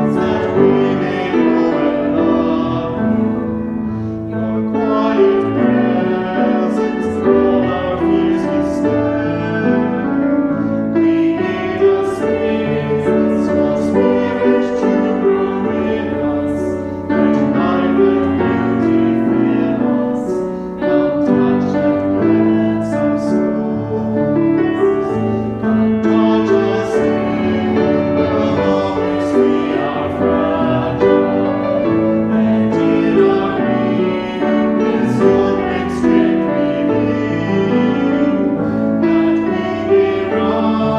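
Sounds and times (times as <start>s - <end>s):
piano accompaniment: 0.0s - 40.9s.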